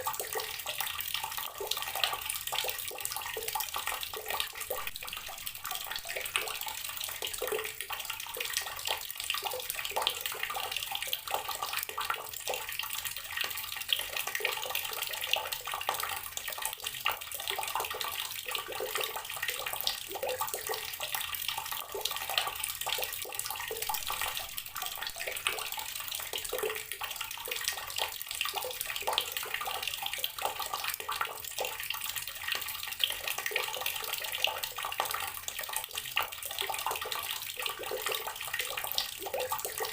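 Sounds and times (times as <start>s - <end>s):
water tap running and splashing: 0.0s - 39.9s.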